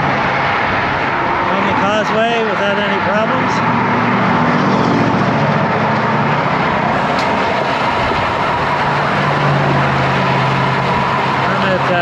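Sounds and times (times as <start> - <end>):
traffic engine hum: 0.0 - 12.0
wind and road noise: 0.0 - 12.0.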